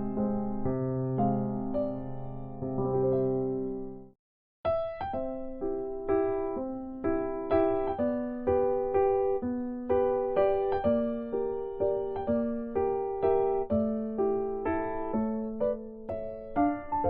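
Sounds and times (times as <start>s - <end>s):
gentle electric piano tune: 0.0s - 17.0s.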